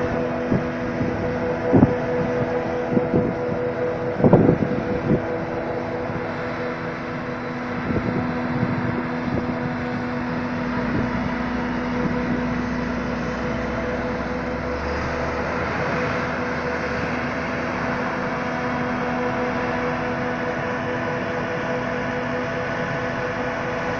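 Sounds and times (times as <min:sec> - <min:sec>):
tractor running: 0:00.0 - 0:23.9.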